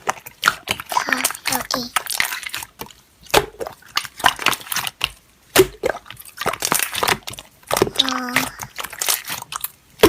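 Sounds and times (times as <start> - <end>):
slime squishing and popping: 0.0 - 10.0.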